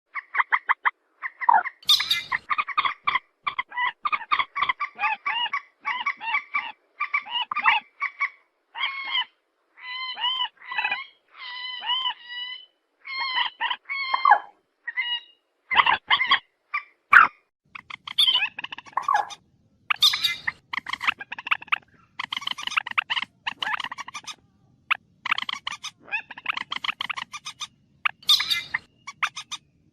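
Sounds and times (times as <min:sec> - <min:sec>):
bird harsh nasal calls: 0:01.8 - 0:17.0, 0:17.8 - 0:24.4, 0:25.2 - 0:29.6.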